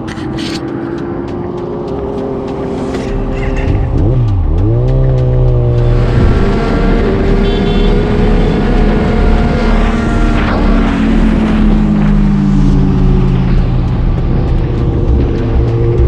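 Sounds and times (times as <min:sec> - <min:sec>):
motorcycle engine: 0:00.0 - 0:16.0
wind noise: 0:02.8 - 0:16.0.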